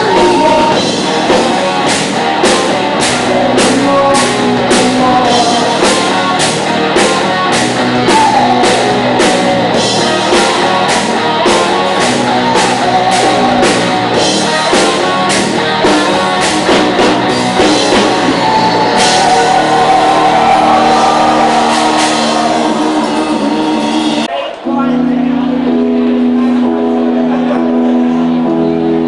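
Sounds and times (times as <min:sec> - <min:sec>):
drum kit: 0:00.0 - 0:24.3
electric guitar chords: 0:00.0 - 0:29.0
person singing: 0:00.0 - 0:29.0.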